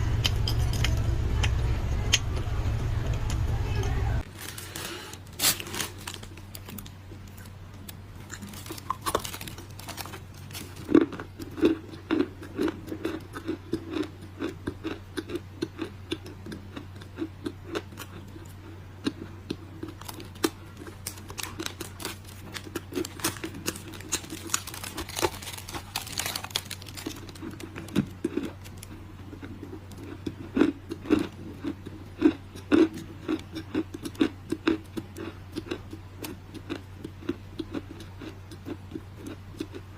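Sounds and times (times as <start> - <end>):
low steady hum: 0.0 - 39.9
clay crunching while chewed: 5.4 - 39.9.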